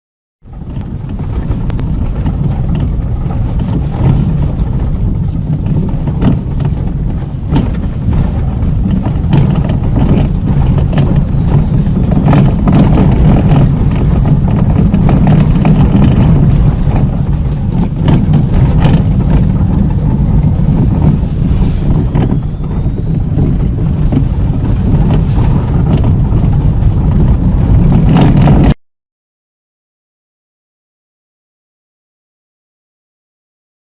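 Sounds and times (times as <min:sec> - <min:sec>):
low rumble of vehicle noise: 0:00.4 - 0:28.8.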